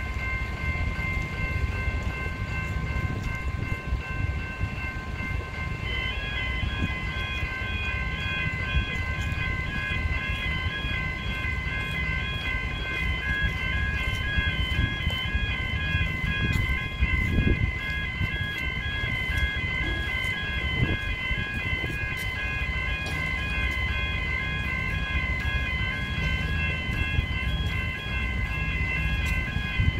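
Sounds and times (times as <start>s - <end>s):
level crossing warning bells: 0.0s - 29.9s.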